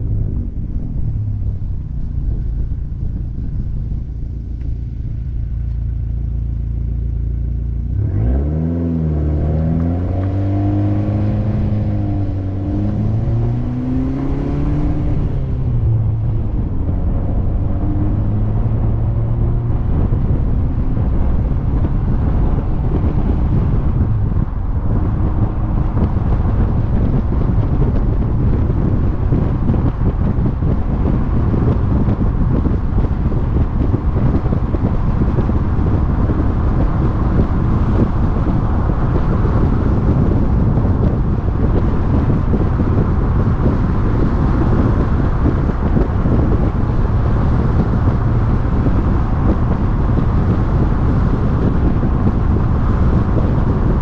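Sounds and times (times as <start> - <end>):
car engine: 0.0 - 54.0
tyre and road noise: 0.0 - 54.0
wind rushing over camera: 0.0 - 54.0.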